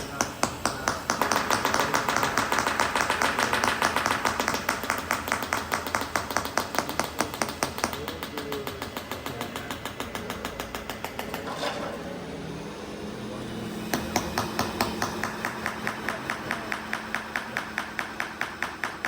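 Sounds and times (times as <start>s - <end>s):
rapid mechanical clicking: 0.0s - 11.6s, 13.8s - 19.0s.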